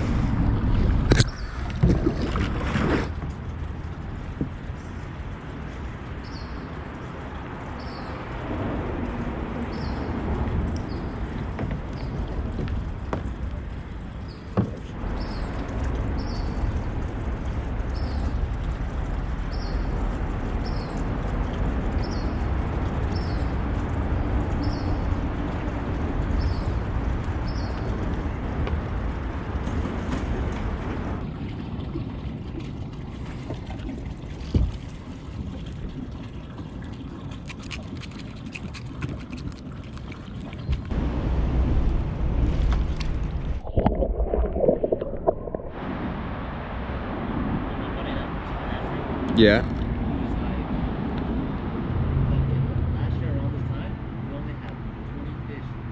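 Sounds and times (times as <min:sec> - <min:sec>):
water sloshing around kayak: 0:00.0 - 0:41.0, 0:42.2 - 0:46.2.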